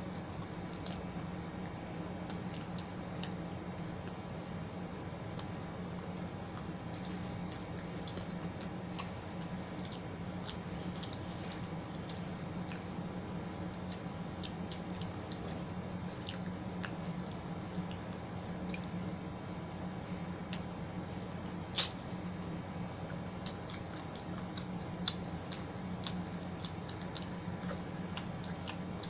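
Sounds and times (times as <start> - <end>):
chewing and wet mouth sounds: 0.1 - 29.0.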